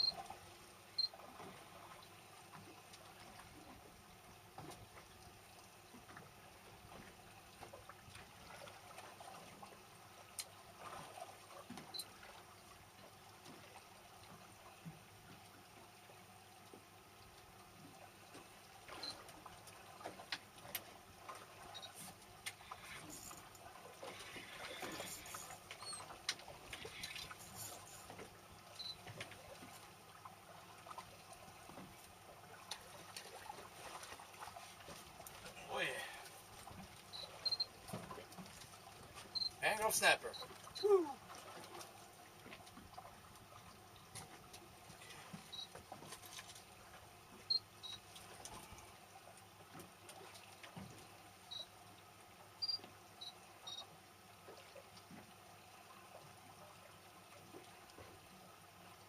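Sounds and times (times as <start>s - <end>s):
water trickling and lapping: 0.0s - 59.0s.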